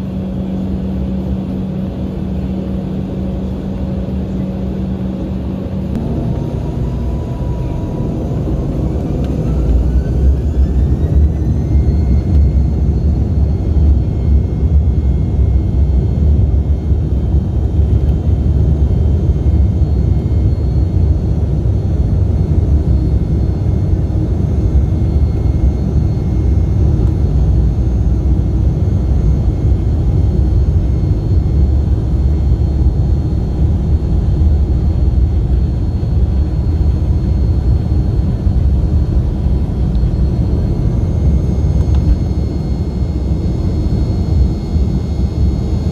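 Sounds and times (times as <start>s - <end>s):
jet engine whine: 0.0s - 45.9s
rumble of jet takeoff roll: 0.0s - 45.9s.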